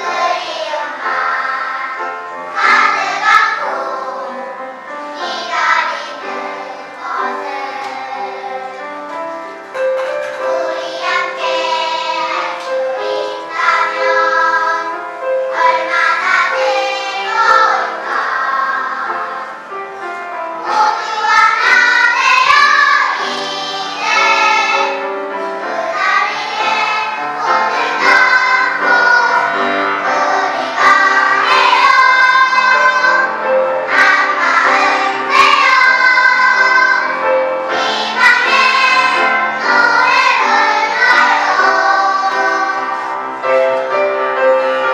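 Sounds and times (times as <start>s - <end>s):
children's choir singing: 0.0s - 44.9s.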